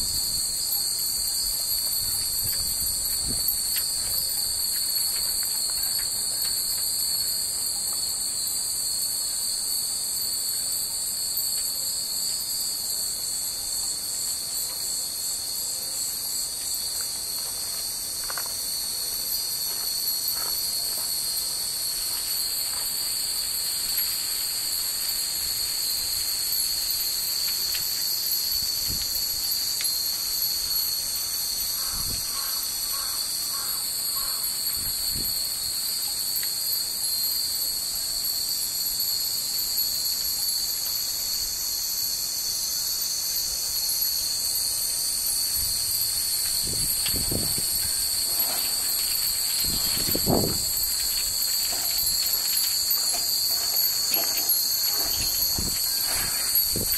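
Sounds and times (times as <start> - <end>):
faint wind chimes ringing: 0.0 - 16.8, 18.7 - 56.9
cicadas singing: 0.0 - 56.9.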